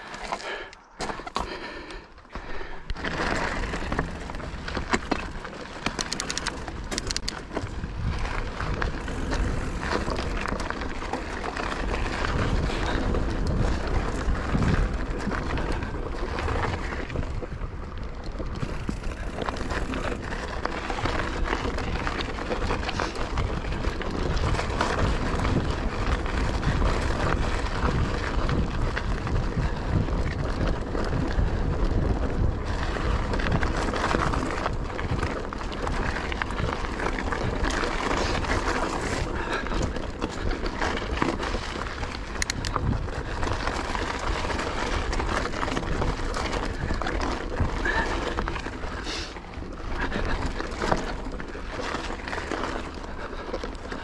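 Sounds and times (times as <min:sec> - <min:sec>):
bike rattling and knocking: 0:00.0 - 0:54.0
bike tyre noise on dirt: 0:00.0 - 0:54.0
wind buffeting microphone: 0:02.4 - 0:54.0.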